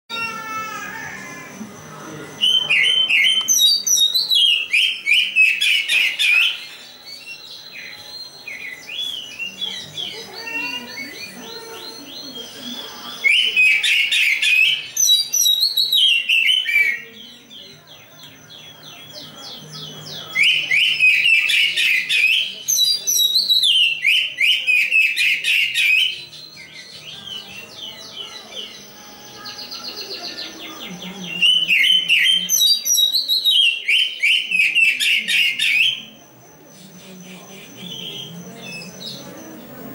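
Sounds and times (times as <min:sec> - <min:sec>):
soft bird twittering: 0:00.8 - 0:39.9
bird chattering song: 0:02.2 - 0:39.9.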